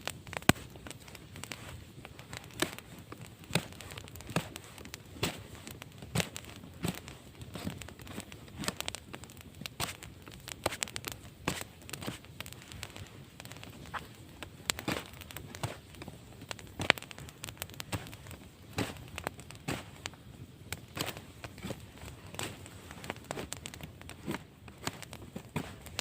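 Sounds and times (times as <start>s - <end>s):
sharp crackles and snaps: 0.0s - 26.0s.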